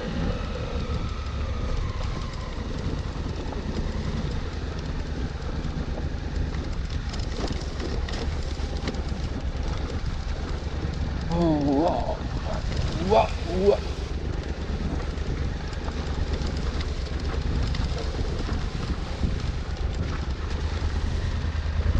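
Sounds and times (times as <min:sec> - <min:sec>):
motorcycle engine rumble: 0:00.0 - 0:21.9
wind and road noise: 0:00.0 - 0:21.9.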